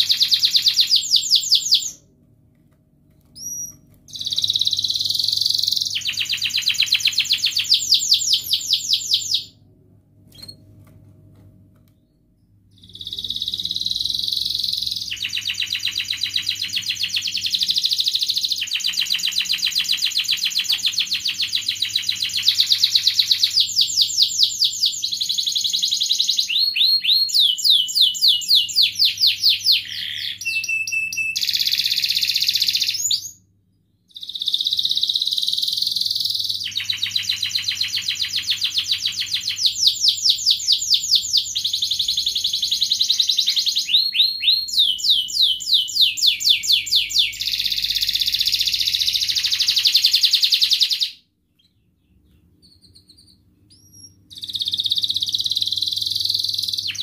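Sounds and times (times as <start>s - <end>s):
canary singing trills: 0.0s - 2.0s, 3.4s - 9.5s, 12.4s - 33.4s, 34.1s - 57.0s.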